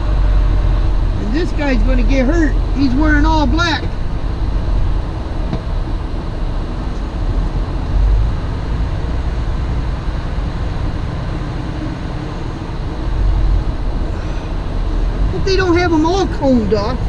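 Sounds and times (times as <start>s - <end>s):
truck diesel engine rumble: 0.0s - 17.0s.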